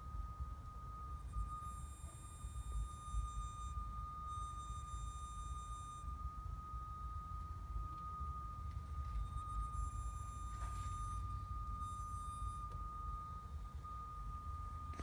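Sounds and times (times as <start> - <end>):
faint high tones: 0.0 - 15.0
high-pitched electrical hum: 0.0 - 15.0.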